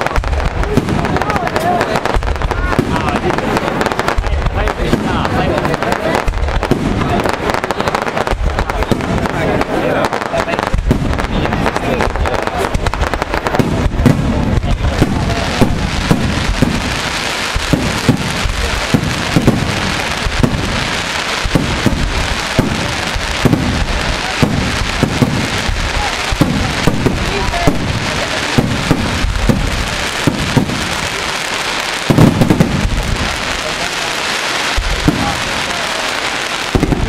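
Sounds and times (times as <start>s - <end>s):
firework crackle: 0.0s - 37.0s
firework shells bursting: 0.0s - 37.0s.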